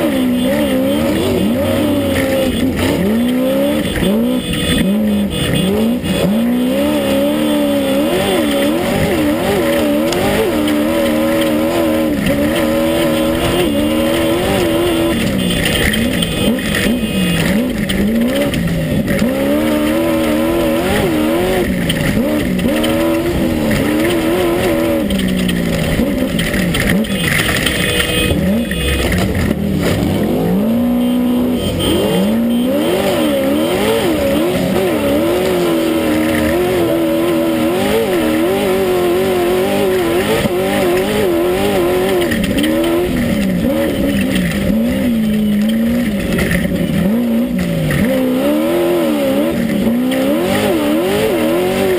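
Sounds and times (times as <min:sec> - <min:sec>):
constant rushing noise: 0:00.0 - 0:51.9
race car engine revving: 0:00.0 - 0:51.9.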